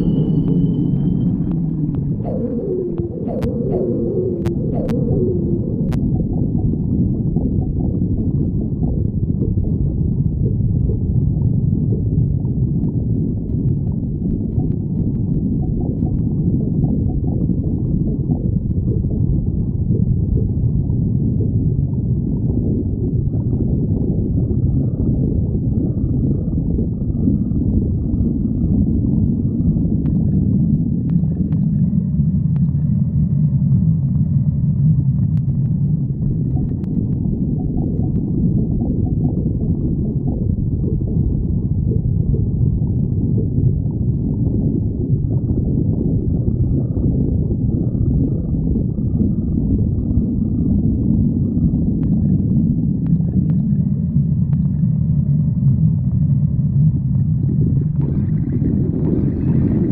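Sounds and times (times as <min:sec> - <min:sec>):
stomach growling: 0:00.0 - 0:59.9.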